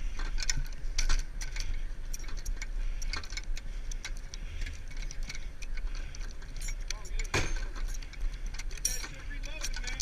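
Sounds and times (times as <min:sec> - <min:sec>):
metal ammunition belt clinking: 0:00.0 - 0:10.0
steady low rumble: 0:00.0 - 0:10.0.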